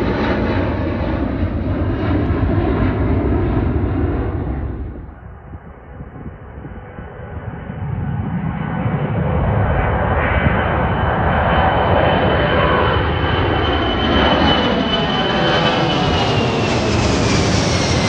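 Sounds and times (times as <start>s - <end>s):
jet aircraft passing: 0.0s - 18.0s.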